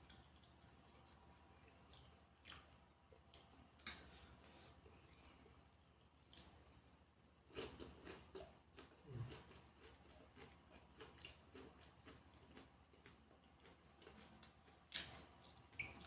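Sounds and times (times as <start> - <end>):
person chewing: 0.0 - 6.8, 7.4 - 15.9.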